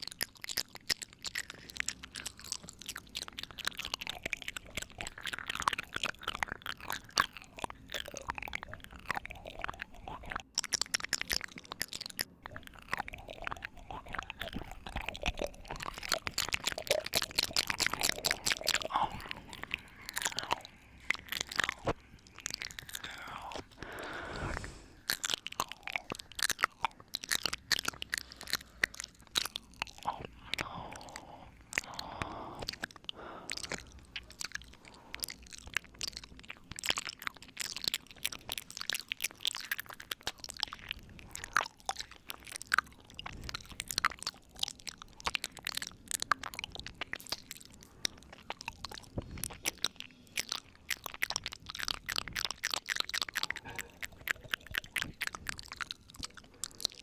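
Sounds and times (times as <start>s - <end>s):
wet mouth clicks and smacks: 0.0s - 57.0s.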